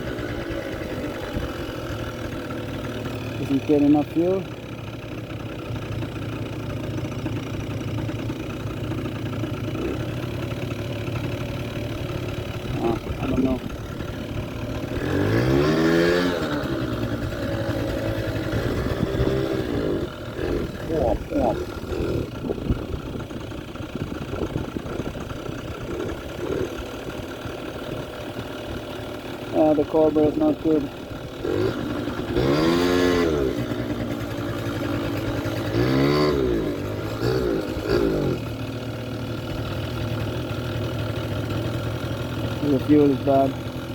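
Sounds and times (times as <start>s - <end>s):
two-stroke scooter engine running: 0.0s - 43.9s.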